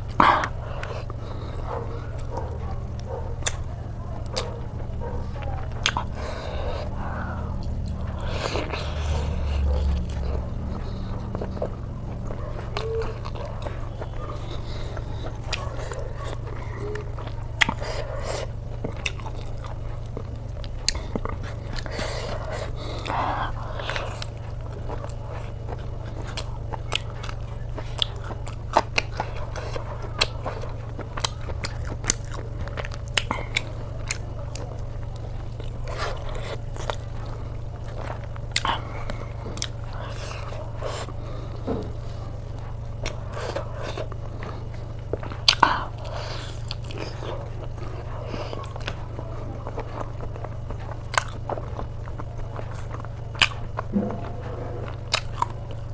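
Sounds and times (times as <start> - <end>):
low hum: 0.0 - 55.9
person chewing crunchy food: 0.0 - 55.9.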